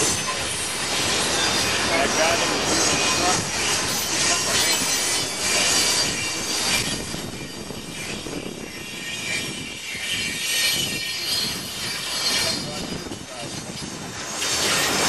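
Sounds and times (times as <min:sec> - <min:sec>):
high wheel squeal: 0:00.0 - 0:15.0
train cars rumbling on rails: 0:00.0 - 0:15.0.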